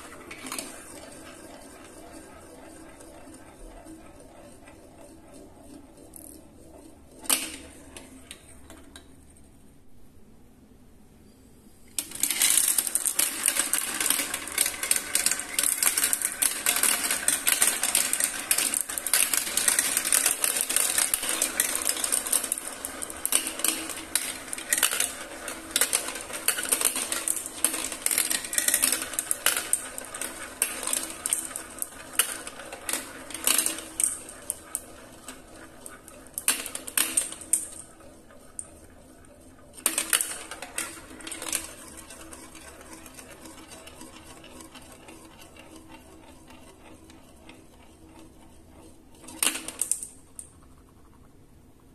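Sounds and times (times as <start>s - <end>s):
marbles clattering down marble run: 0.0s - 8.5s, 12.0s - 51.3s.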